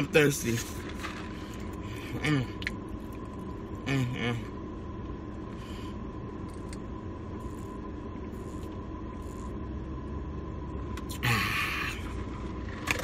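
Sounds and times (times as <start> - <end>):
low background rumble: 0.0 - 13.0
faint steady tone: 0.6 - 12.6.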